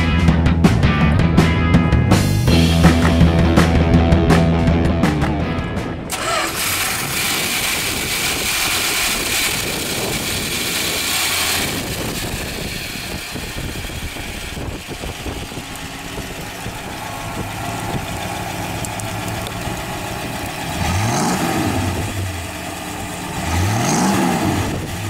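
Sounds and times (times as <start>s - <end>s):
car engine idling: 1.5s - 25.0s.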